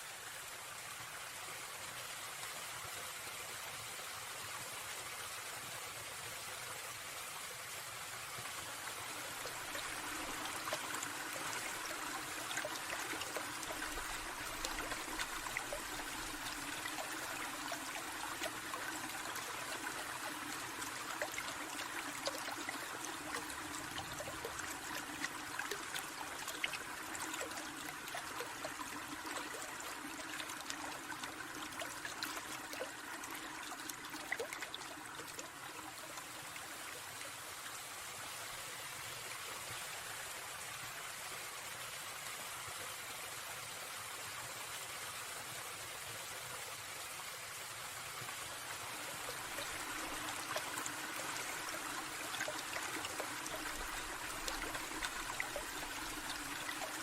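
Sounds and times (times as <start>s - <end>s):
stream trickling and babbling: 0.0s - 57.0s.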